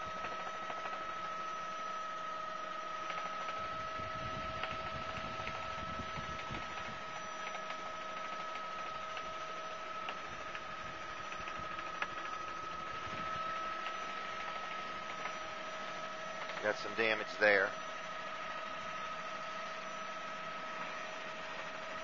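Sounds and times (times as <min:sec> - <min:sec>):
helicopter cabin whine: 0:00.0 - 0:22.0.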